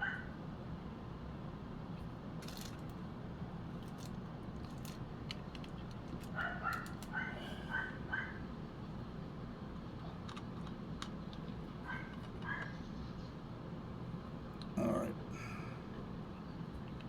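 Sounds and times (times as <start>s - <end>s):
steady low hum: 0.3s - 17.0s.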